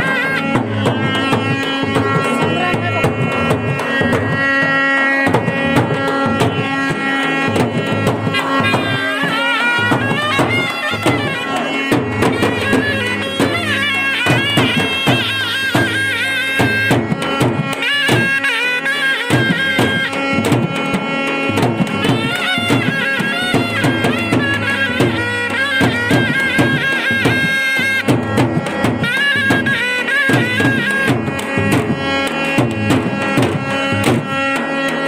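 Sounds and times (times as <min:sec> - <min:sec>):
hand drumming: 0:00.0 - 0:18.5, 0:19.3 - 0:35.0
reedy wind instrument melody: 0:00.0 - 0:35.0.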